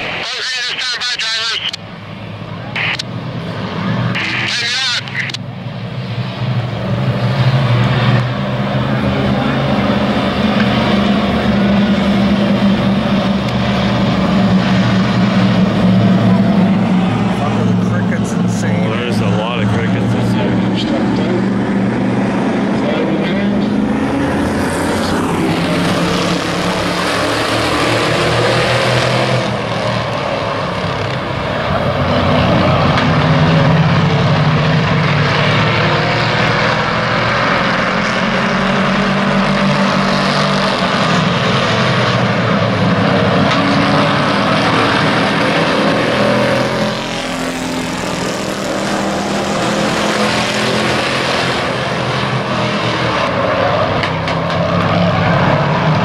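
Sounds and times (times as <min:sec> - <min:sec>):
racing truck engines droning: 0:00.0 - 0:56.0.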